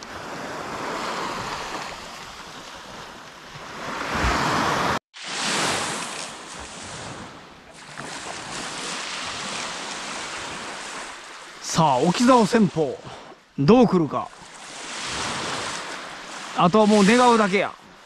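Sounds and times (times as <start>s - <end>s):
small waves washing onto sand: 0.0s - 18.0s.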